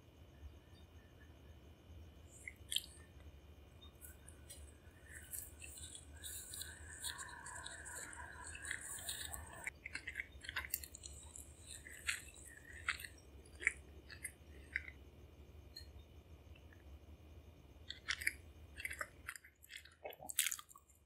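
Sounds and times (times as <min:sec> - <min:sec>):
soft chewing: 0:02.3 - 0:17.0, 0:17.7 - 0:21.0.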